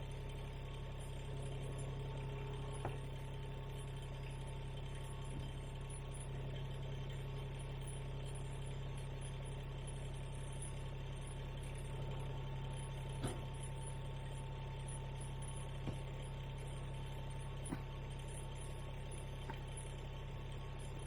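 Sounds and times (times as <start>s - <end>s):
engine running steadily: 0.0s - 21.0s
thin steady whine: 0.0s - 21.0s.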